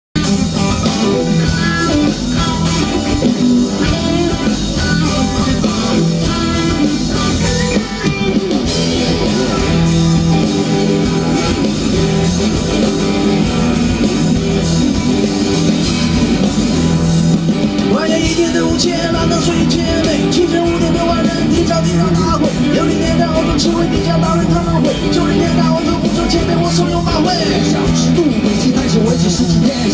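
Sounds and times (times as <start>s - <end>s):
live rock band playing: 0.2s - 29.9s.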